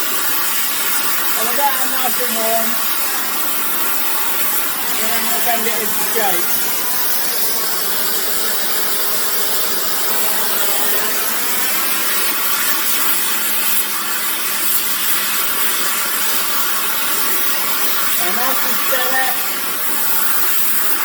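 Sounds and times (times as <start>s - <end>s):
gas torch flame hissing: 0.0s - 21.0s.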